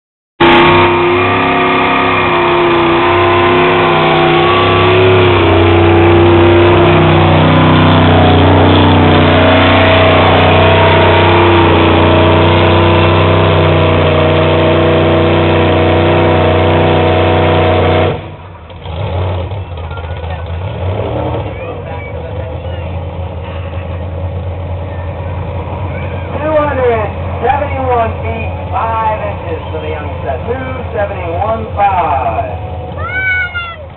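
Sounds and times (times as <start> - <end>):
truck engine running at high revs: 0.4 - 33.2.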